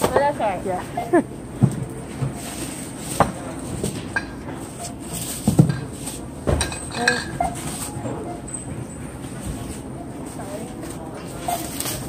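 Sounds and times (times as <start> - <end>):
groceries and bags thumping: 0.0 - 12.0
supermarket checkout background noise: 0.0 - 12.0.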